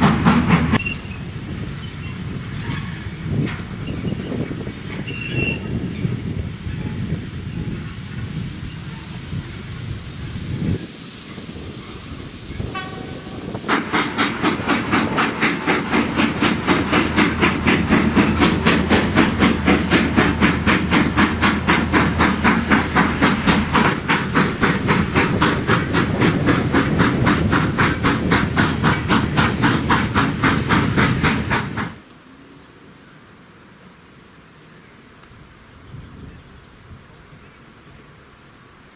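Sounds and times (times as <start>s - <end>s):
steam locomotive chuffing: 0.0s - 32.0s.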